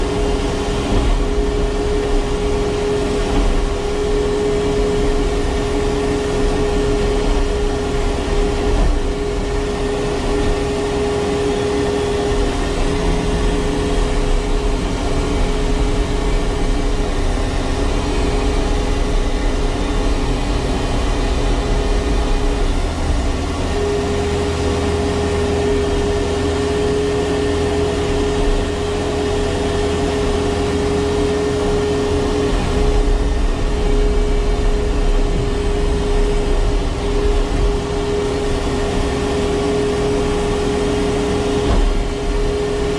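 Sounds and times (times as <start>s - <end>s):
excavator diesel engine: 0.0s - 42.9s
hydraulic high whine: 0.0s - 42.9s.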